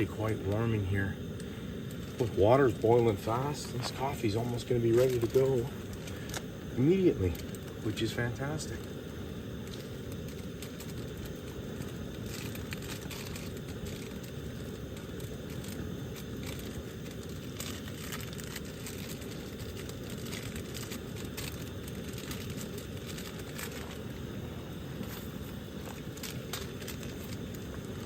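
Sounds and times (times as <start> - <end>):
camp stove burner rushing: 0.0 - 28.0
faint crackles: 0.0 - 28.0.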